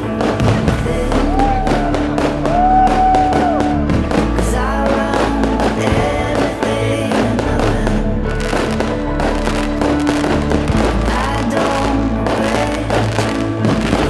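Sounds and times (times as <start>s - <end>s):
firework bangs and crackles: 0.0s - 14.0s
loud music with sustained notes: 0.0s - 14.0s.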